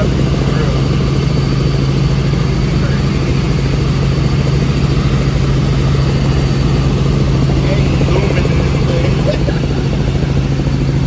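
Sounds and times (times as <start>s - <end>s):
helicopter drone: 0.0s - 11.0s.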